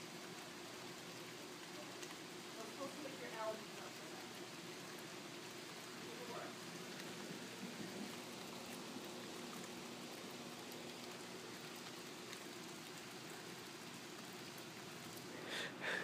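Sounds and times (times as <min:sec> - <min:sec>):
faint rainfall: 0:00.0 - 0:16.0
ticks of raindrops: 0:00.0 - 0:16.0.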